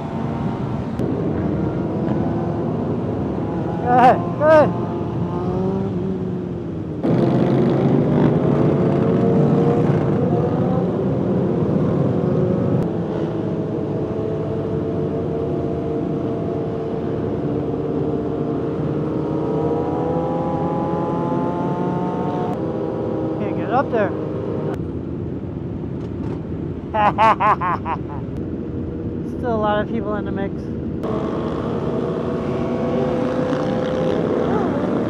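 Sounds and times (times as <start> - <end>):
motorcycle engine revving: 0.0 - 24.8, 31.0 - 35.0.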